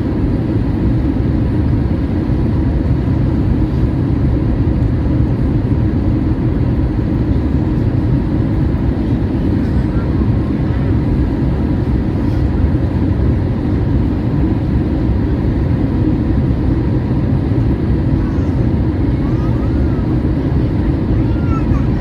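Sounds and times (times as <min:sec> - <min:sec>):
airliner cabin roar: 0:00.0 - 0:22.0.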